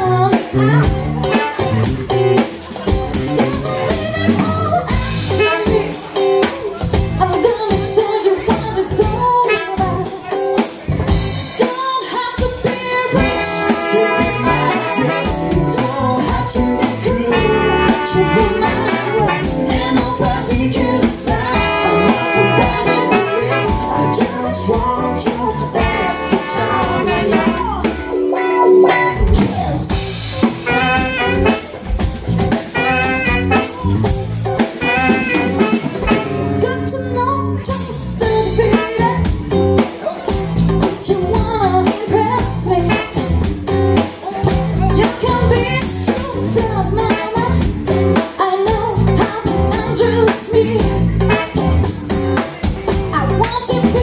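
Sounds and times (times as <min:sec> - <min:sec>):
woman singing: 0:00.0 - 0:30.0, 0:34.8 - 0:54.0
live funk band playing: 0:00.0 - 0:54.0.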